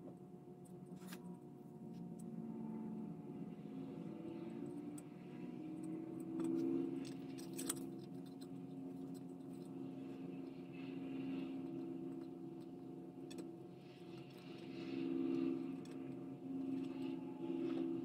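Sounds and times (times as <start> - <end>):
small clicks and scrapes: 0.0 - 2.4, 4.3 - 18.0
steady low hum: 0.0 - 18.0.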